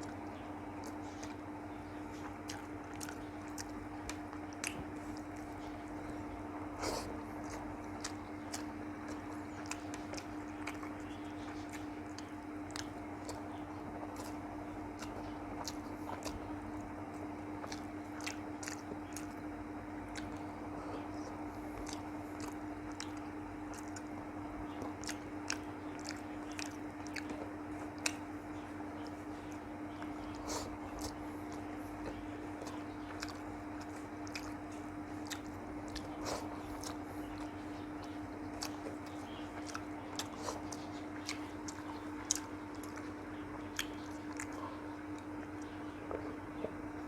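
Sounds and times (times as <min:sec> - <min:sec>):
person chewing: 0:00.0 - 0:47.0.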